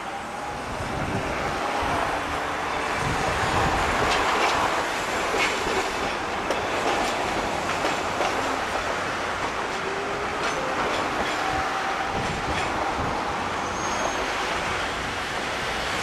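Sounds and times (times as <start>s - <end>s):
tram running on track: 0.0s - 16.0s.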